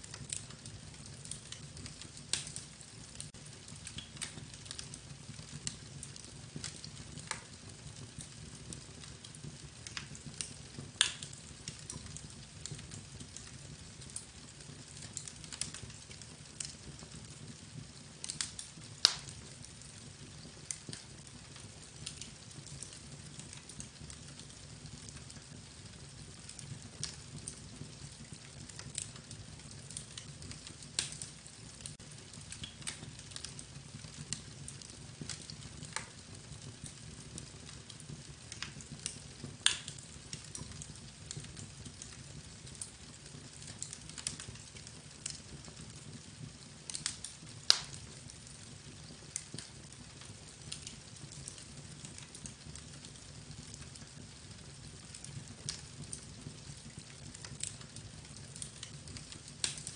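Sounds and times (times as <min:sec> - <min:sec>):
crackling clicks and pops: 0:00.0 - 0:59.9.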